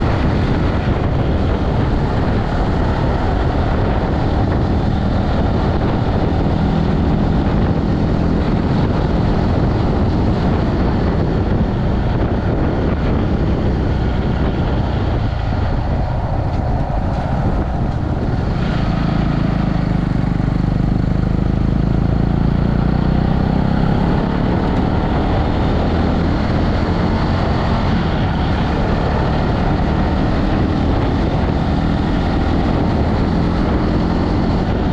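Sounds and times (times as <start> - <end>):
motorcycle engine running: 0.0 - 34.9
rushing wind noise: 0.0 - 34.9.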